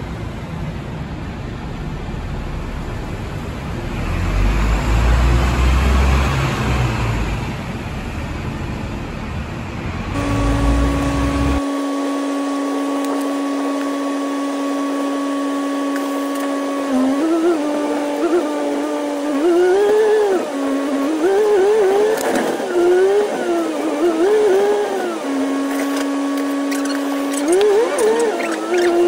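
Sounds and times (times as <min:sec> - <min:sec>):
bus engine rumbling: 0:00.0 - 0:11.6, 0:16.0 - 0:29.0.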